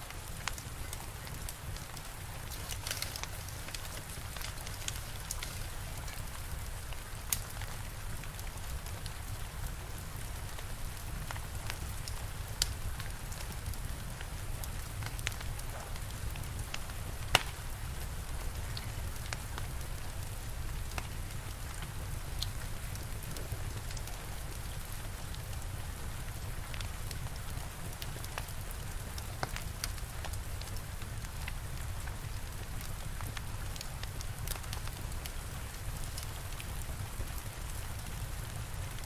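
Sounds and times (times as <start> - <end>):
steady rain: 0.0 - 39.0
wood fire crackling and popping: 0.0 - 39.0.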